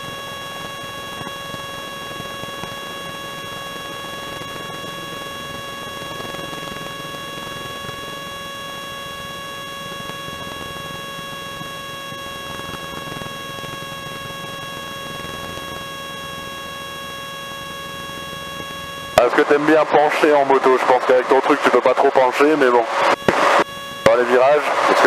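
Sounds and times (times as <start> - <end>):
steady whining tones: 0.0 - 25.0.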